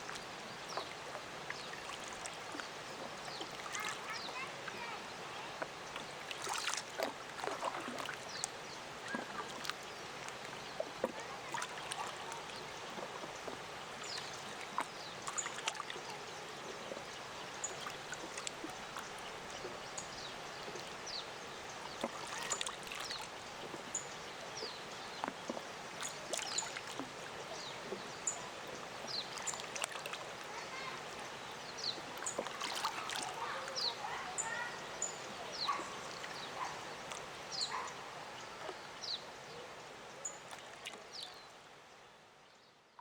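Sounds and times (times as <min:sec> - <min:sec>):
small waves lapping: 0:00.0 - 0:43.0.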